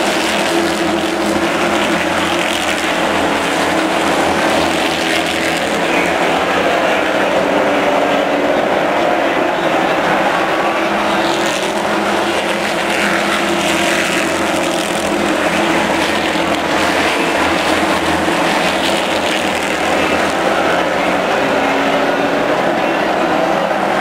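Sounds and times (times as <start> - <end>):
many race car engines droning: 0.0 - 24.0.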